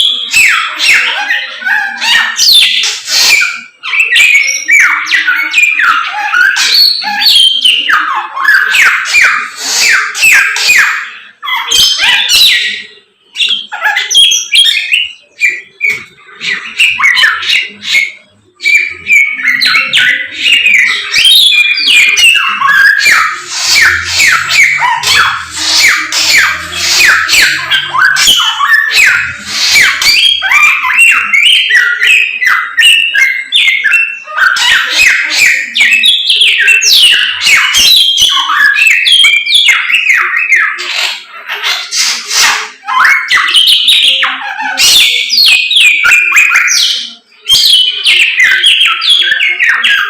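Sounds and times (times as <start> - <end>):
caged songbird singing: 0.0 - 50.0.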